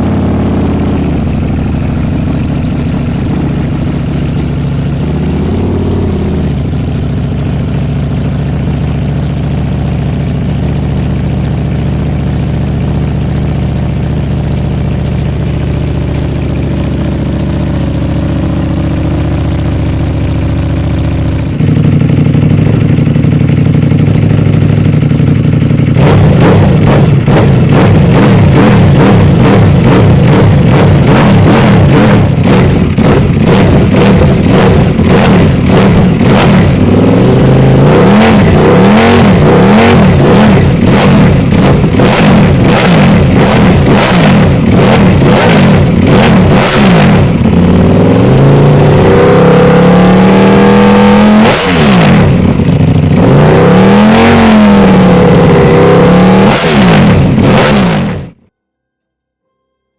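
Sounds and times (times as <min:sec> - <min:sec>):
loud motorcycle engine revving: 0:00.0 - 0:58.5.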